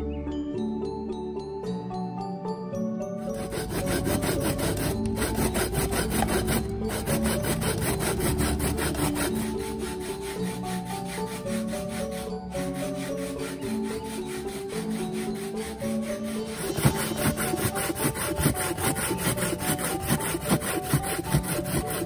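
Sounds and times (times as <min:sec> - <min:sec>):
light background music with mallets: 0:00.0 - 0:22.0
coconut grating on metal grater: 0:03.2 - 0:22.0.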